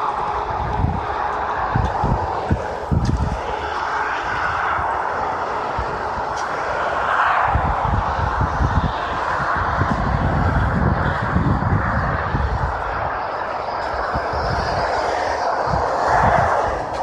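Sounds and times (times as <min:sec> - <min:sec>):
expressway traffic roar: 0:00.0 - 0:17.0.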